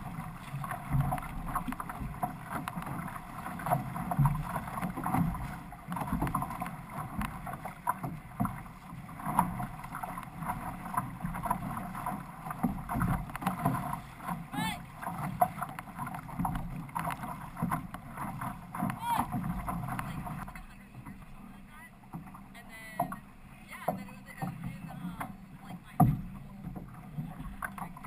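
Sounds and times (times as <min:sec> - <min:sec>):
paddle splashes: 0:00.0 - 0:28.0
water rushing along hull: 0:00.0 - 0:28.0.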